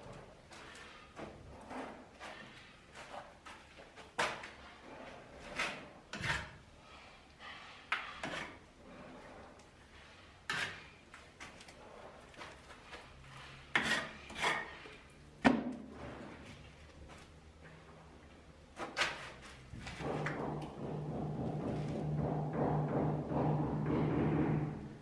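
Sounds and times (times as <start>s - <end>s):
scrapes and knocks: 0.0s - 18.1s, 18.7s - 25.0s.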